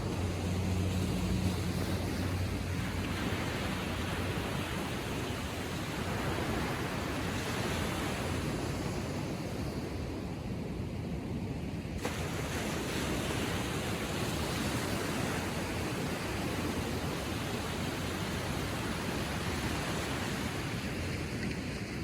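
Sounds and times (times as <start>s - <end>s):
small waves washing on shore: 0.0s - 22.0s.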